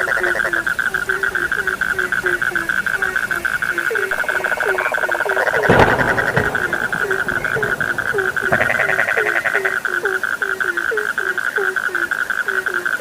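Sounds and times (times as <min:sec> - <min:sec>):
frog pulsing trill: 0:00.0 - 0:13.0
frog short croaks: 0:00.0 - 0:13.0.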